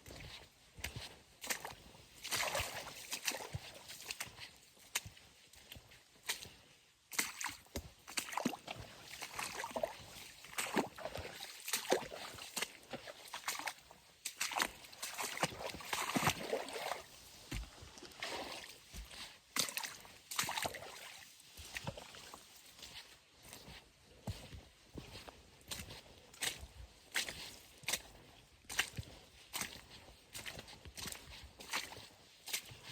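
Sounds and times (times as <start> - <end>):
footsteps splashing on wet ground: 0.0 - 32.9.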